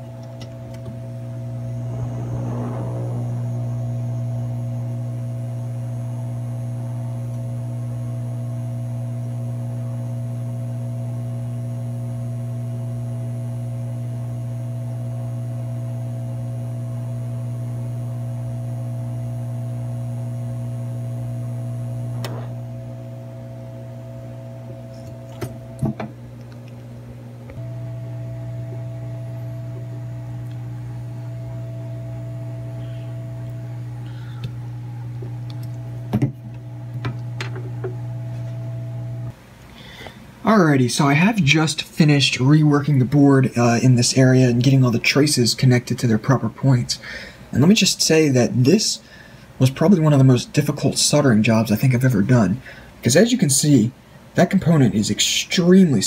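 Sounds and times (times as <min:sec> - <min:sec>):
hot air blower humming: 0:00.0 - 0:51.8.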